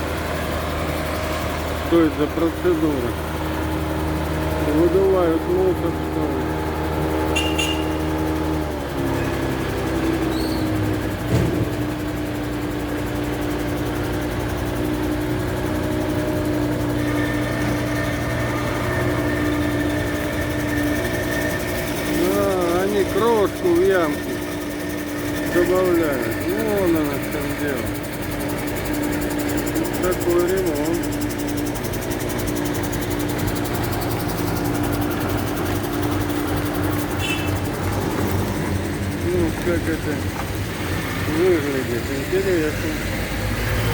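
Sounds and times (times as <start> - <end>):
machine engine humming: 0.0 - 43.9.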